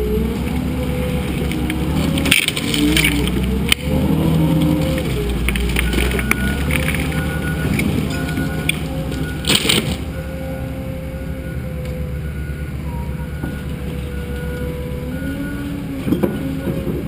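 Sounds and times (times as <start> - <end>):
diesel engine working under load: 0.0 - 17.0.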